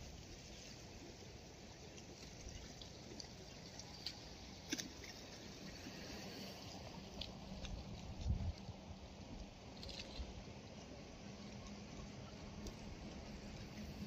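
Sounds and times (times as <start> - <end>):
water lapping among rocks: 0.0 - 14.0.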